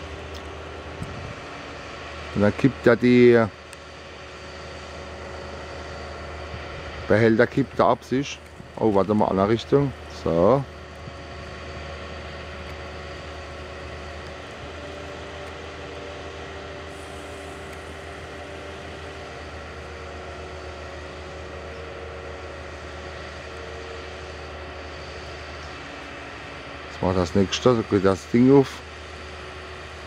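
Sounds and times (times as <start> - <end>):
harvester engine running: 0.0 - 30.0.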